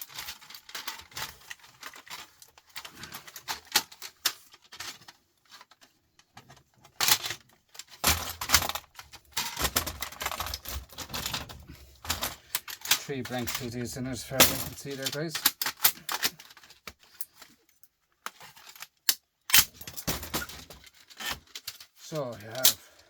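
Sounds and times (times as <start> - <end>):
rattling and scraping: 0.0 - 17.7, 18.3 - 23.0
plastic and metal parts clattering: 0.0 - 23.0.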